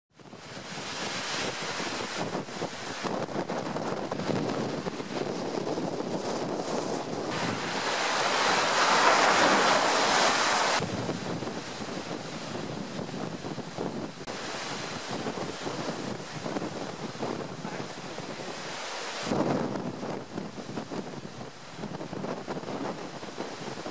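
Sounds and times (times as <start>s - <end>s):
waves breaking against shore: 0.2s - 23.9s
wind gusting against microphone: 0.2s - 23.9s.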